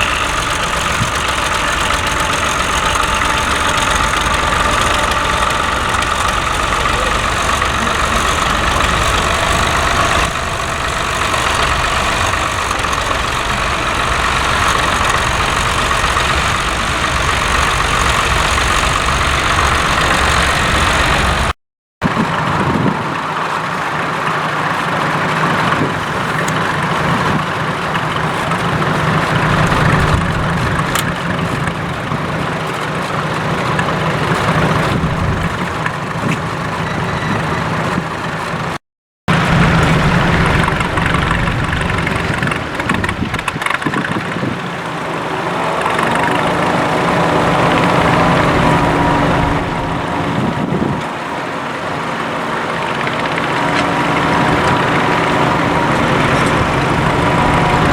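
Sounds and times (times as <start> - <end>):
tractor engines running: 0.0 - 57.9.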